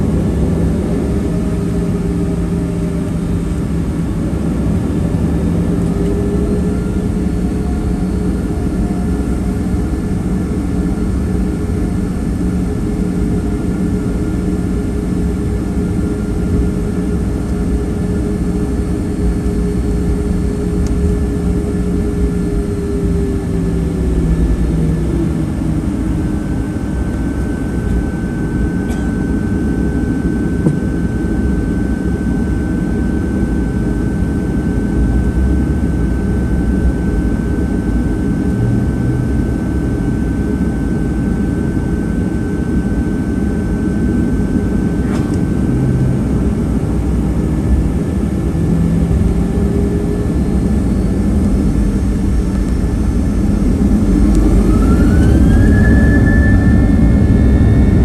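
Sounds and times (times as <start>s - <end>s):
jet engines idling in cabin: 0.0s - 58.0s.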